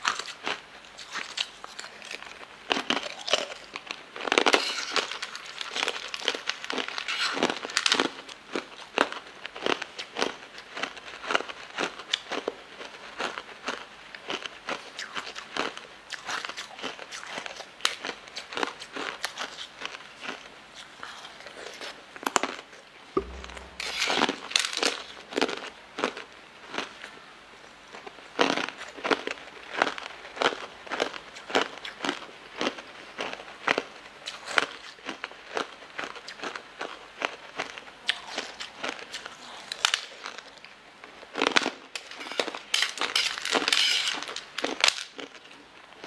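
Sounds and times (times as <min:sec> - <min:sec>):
crunching and chewing hard candy: 0:00.0 - 0:46.0.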